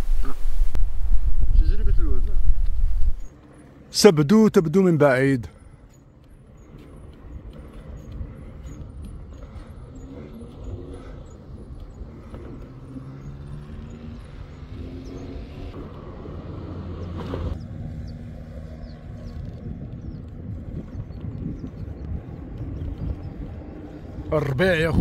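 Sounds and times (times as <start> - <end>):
vehicle engine running: 0.2 - 25.0.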